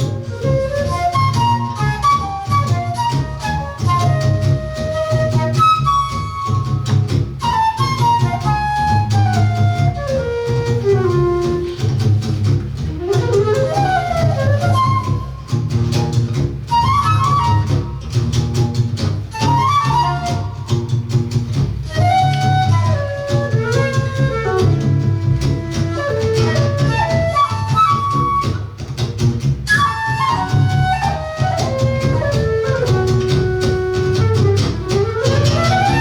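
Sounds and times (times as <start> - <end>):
flute melody: 0.0 - 29.0, 29.6 - 36.0
plucked low accompaniment: 0.0 - 36.0.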